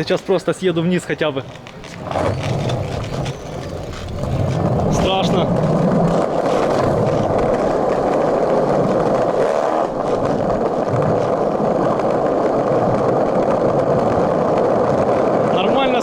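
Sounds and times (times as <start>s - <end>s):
skateboard wheels rolling on pavement: 0.0s - 16.0s.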